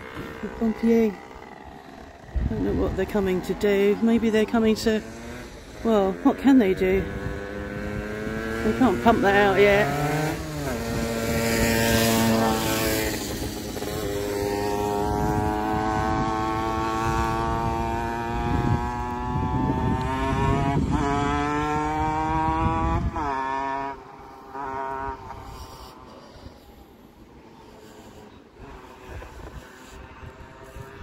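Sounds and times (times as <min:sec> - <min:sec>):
motor engine revving: 0:00.0 - 0:31.0.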